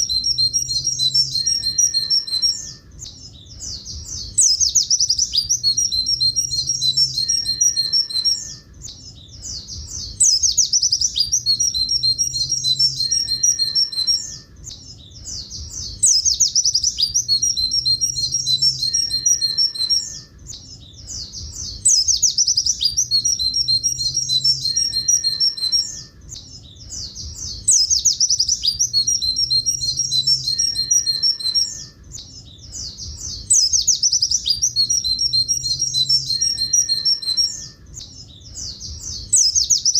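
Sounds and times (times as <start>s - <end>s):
bird singing high clear notes: 0.0s - 39.9s.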